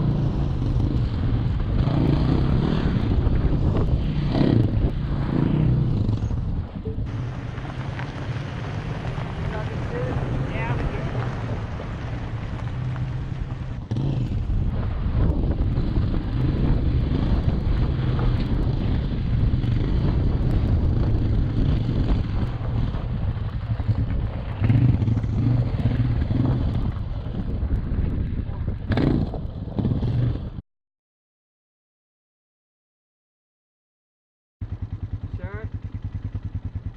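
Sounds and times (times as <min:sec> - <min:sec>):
tyres rumbling over rocky trail: 0:00.0 - 0:30.6
wind buffeting microphone: 0:00.0 - 0:30.6.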